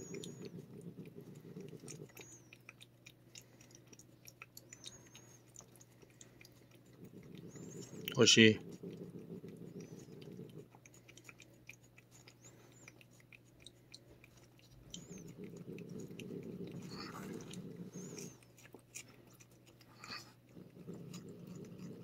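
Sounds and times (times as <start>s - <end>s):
cat licking wet smacking: 0.0s - 22.0s
low steady hum: 0.0s - 22.0s.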